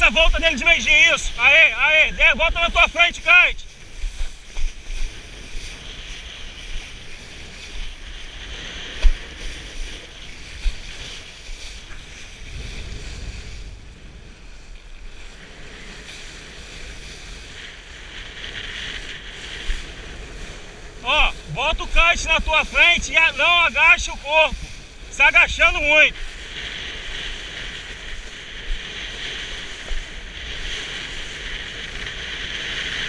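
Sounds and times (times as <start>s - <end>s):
board hissing over water: 0.0s - 33.0s
wind buffeting microphone: 0.0s - 33.0s.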